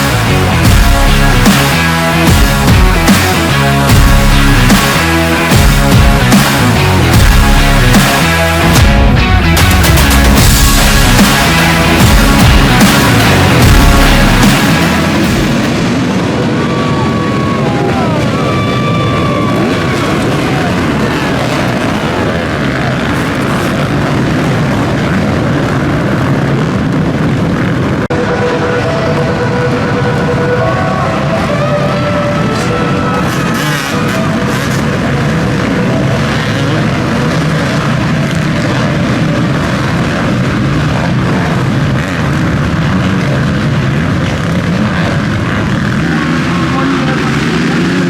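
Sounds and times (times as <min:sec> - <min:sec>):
motocross bike engines revving: 0:00.0 - 0:48.0.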